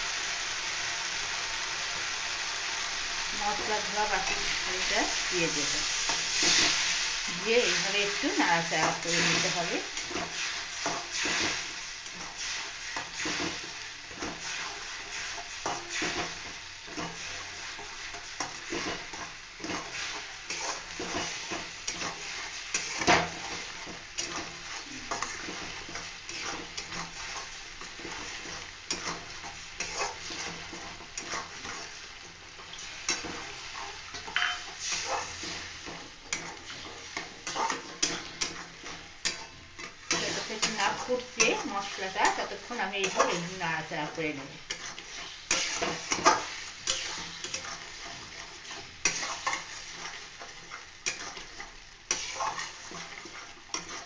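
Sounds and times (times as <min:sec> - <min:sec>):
paste sizzling in oil: 0:00.0 - 0:54.0
spatula scraping metal pan: 0:07.6 - 0:54.0.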